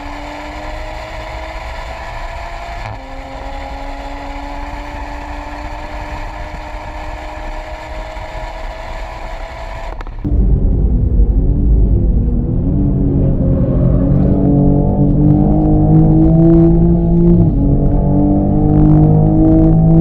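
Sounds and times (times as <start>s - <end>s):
car engine under full throttle: 0.0s - 20.0s.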